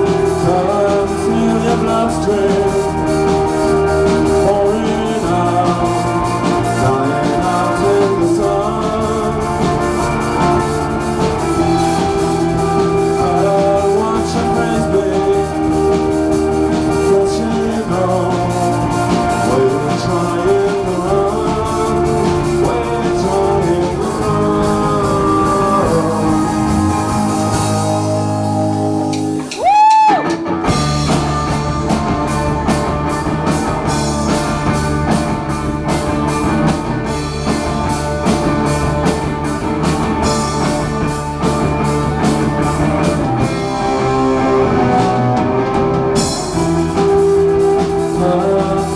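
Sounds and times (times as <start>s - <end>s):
rock band playing: 0.0s - 48.9s.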